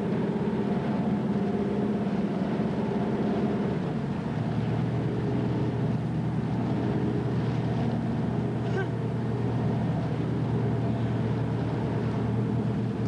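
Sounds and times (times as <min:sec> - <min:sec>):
diesel engines droning: 0:00.0 - 0:13.0.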